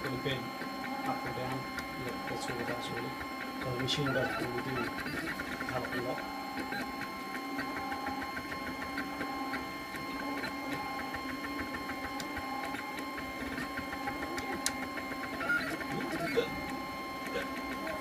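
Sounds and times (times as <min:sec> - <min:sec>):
stepper motors whining: 0:00.0 - 0:18.0.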